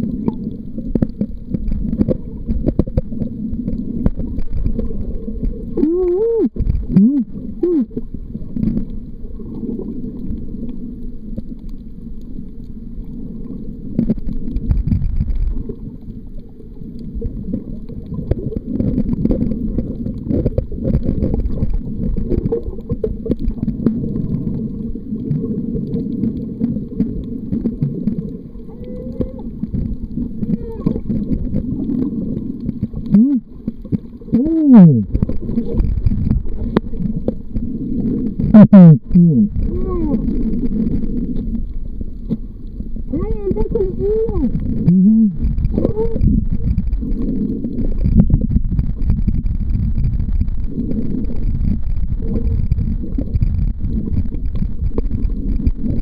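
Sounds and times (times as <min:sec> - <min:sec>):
underwater clicks: 0:00.0 - 0:56.0
underwater rumble of moving water: 0:00.0 - 0:56.0.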